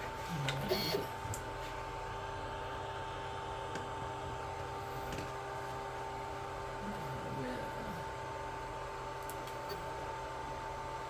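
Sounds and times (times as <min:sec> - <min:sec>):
laser cutter fans whirring: 0:00.0 - 0:11.0.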